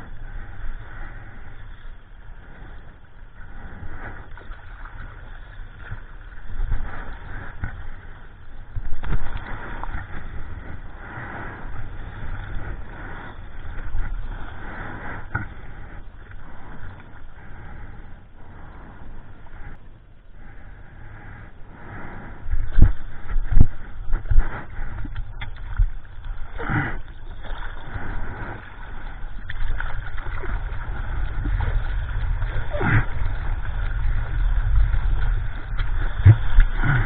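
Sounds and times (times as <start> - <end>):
water splashing along surfboard: 0.0 - 19.8, 21.7 - 37.0
low microphone rumble: 0.0 - 37.0.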